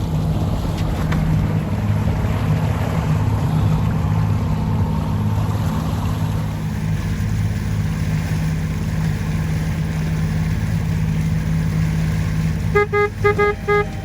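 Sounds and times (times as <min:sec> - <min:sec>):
motorboat engine humming: 0:00.0 - 0:14.0.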